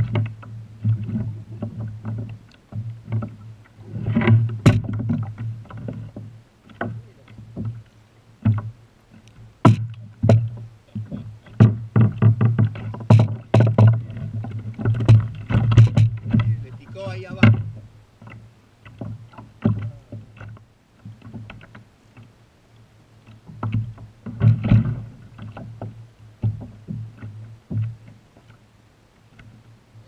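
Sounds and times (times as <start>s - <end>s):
fish being handled knocks and rattles: 0.0s - 3.4s, 4.1s - 22.3s, 23.4s - 28.6s
low steady hum: 0.0s - 30.0s.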